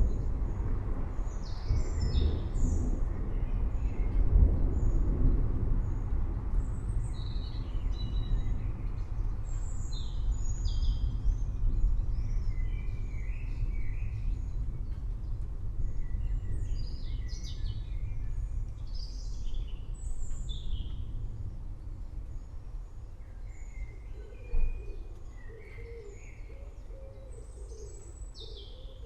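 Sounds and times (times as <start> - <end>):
forest birds chirping: 0.0 - 5.2, 5.8 - 29.0
steady low rumble: 0.0 - 25.5.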